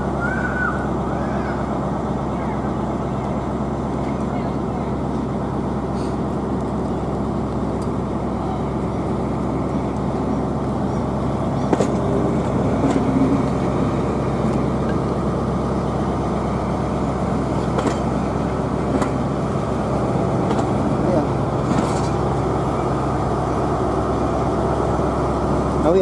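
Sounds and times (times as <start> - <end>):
moving vehicle rumble: 0.0 - 26.0.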